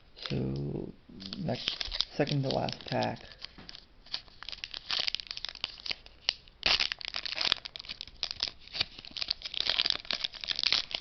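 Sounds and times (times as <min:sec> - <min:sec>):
foil wrapper tearing and crinkling: 0:01.2 - 0:11.0.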